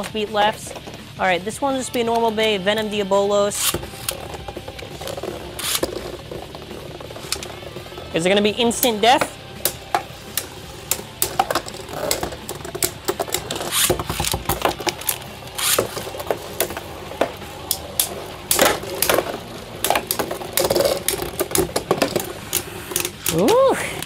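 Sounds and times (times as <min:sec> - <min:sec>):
spinning tops whirring: 0:03.5 - 0:24.0
plastic tops clashing clicks: 0:03.6 - 0:07.8, 0:08.8 - 0:24.0.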